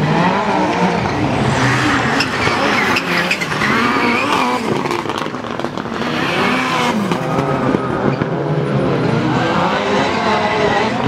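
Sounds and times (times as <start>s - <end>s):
race car engine revving past: 0.0s - 11.0s.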